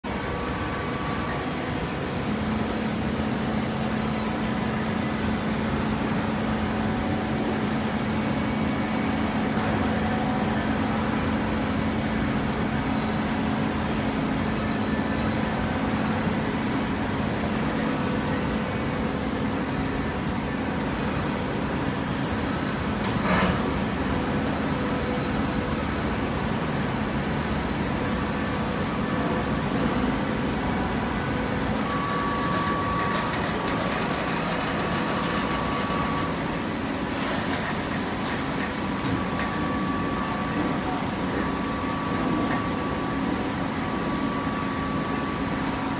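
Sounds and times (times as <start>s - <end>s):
baler machine running: 0.1s - 45.9s.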